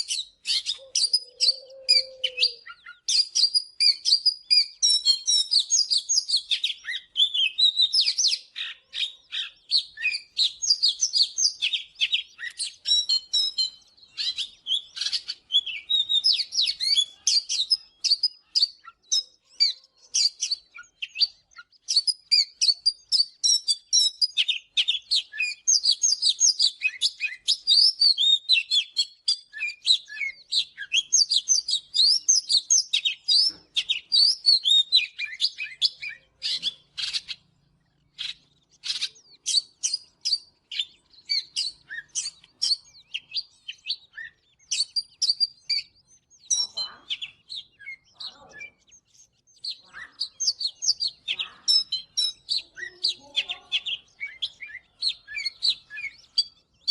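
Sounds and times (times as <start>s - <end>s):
bird singing varied song: 0.0s - 56.9s.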